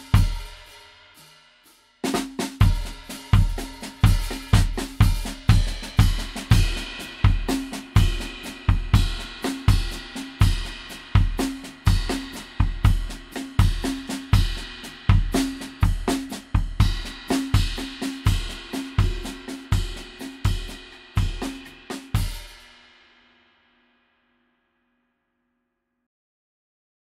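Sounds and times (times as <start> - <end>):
snare and hi-hat strokes: 0.0 - 23.1.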